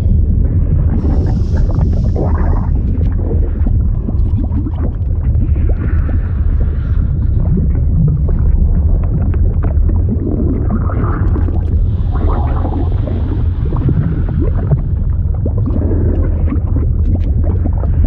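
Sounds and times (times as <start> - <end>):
deep rumble: 0.0 - 18.0
liquid bubbling and gurgling: 0.0 - 18.0.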